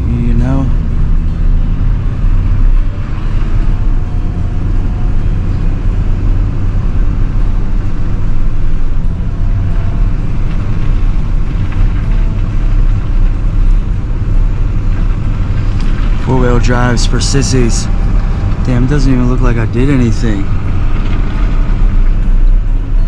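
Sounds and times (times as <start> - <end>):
truck engine running under load: 0.0 - 23.0.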